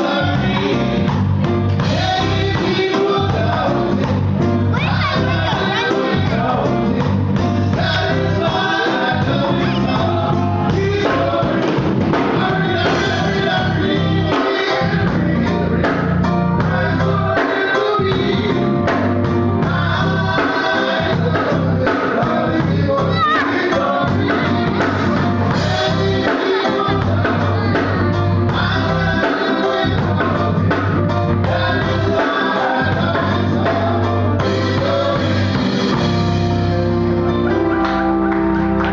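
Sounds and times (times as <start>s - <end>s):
man singing: 0.0s - 1.1s, 1.8s - 19.0s, 19.6s - 36.1s
drum kit: 0.0s - 38.9s
electric keyboard: 0.0s - 38.9s.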